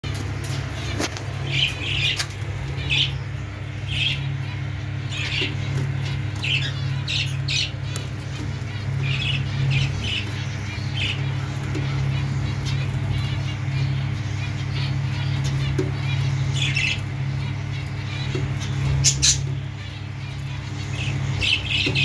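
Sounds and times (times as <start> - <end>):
steady low hum: 0.0 - 22.0
lovebirds squawking: 0.3 - 22.0.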